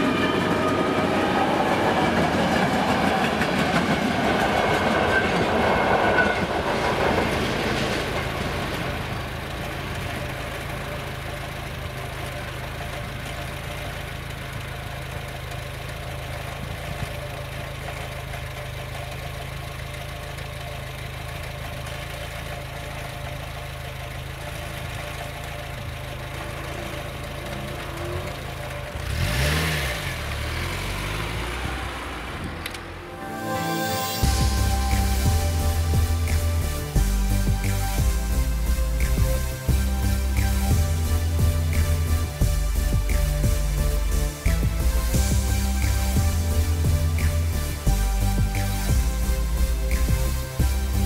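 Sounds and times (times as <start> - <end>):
train passing over crossing: 0.0 - 16.6, 22.6 - 51.0
car engine idling: 0.0 - 33.2, 34.2 - 51.0
car moving off: 0.0 - 51.0.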